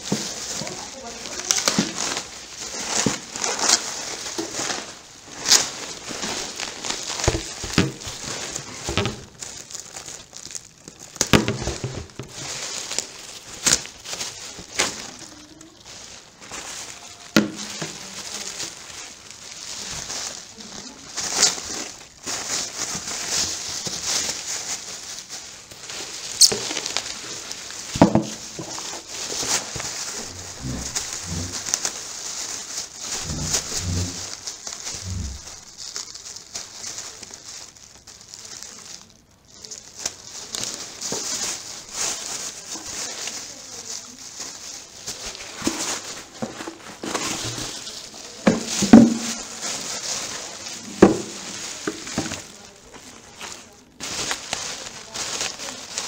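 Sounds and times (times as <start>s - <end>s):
sharp crackles: 0.0s - 46.3s
plastic packaging rustling: 0.0s - 56.0s.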